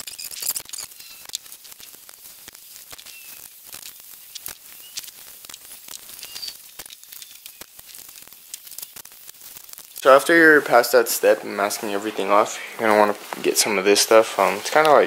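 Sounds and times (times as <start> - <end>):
masking tape ripping: 0.0 - 15.0.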